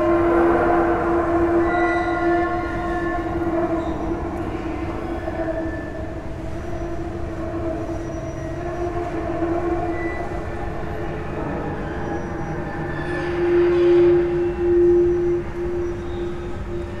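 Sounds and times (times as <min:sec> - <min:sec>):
steady droning tone: 0:00.0 - 0:17.0.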